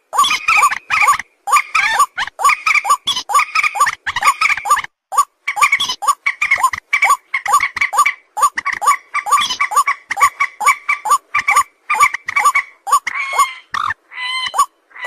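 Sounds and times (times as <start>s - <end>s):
high-pitched animal calls: 0.1s - 15.0s.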